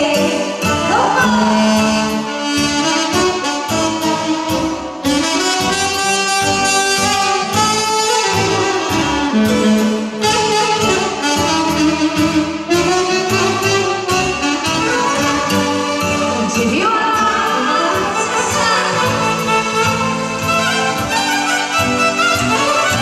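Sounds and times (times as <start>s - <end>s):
keyboard backing with beat: 0.0s - 23.0s
saxophone lead melody: 0.0s - 23.0s.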